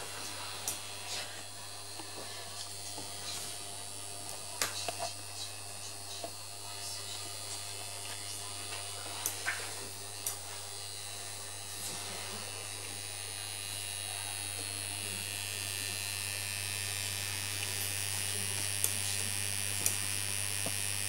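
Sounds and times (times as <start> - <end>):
mains hum and buzz: 0.0 - 21.0.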